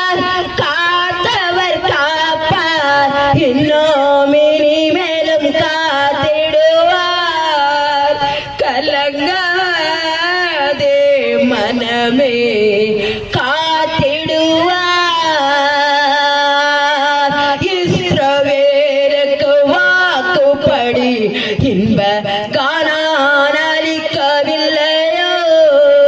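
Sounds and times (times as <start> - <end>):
woman singing into a microphone: 0.0 - 26.0.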